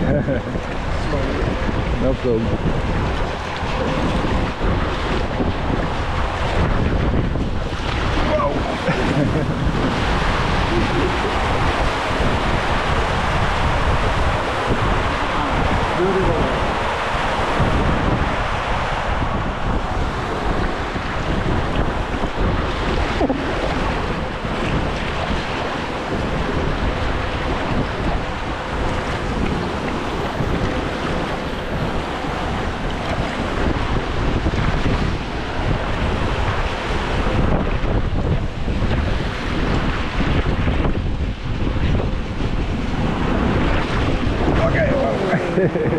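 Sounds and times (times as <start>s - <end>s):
water rushing along a slide: 0.0s - 45.9s
wind buffeting microphone: 0.0s - 45.9s.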